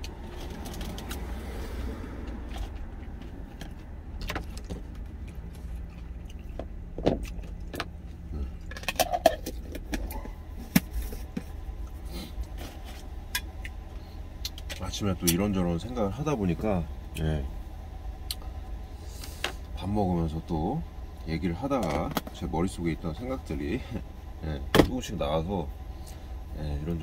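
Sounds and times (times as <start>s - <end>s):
idling truck hum: 0.0s - 27.0s.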